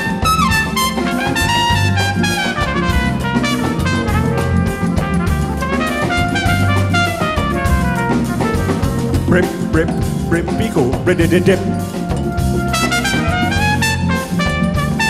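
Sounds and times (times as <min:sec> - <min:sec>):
big band playing calypso: 0:00.0 - 0:15.0
trumpet solo: 0:00.0 - 0:15.0.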